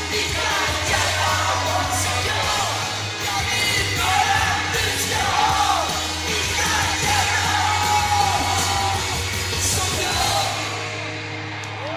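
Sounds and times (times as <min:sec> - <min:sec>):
crowd yelling: 0:00.0 - 0:11.9.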